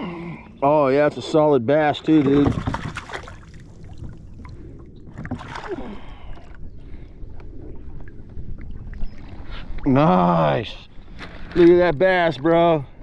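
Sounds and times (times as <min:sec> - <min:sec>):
water against kayak hull: 0:00.6 - 0:12.7.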